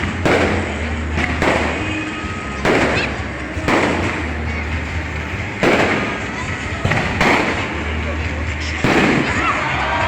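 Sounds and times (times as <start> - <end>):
fireworks bursting: 0.0 - 10.0.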